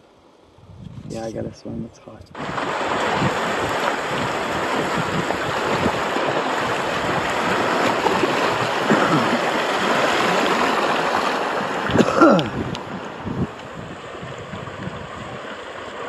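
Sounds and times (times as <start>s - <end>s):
river water rushing over rocks: 2.4s - 16.0s.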